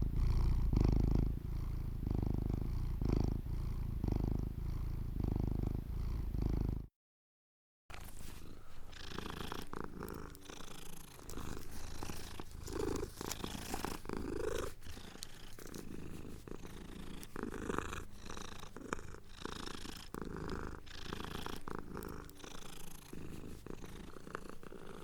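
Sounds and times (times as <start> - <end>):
cat purring: 0.0 - 6.9, 7.9 - 25.0.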